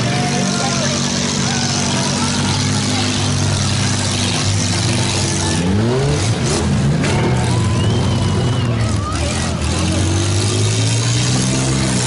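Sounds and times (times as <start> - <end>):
minivan engines revving: 0.0 - 12.0.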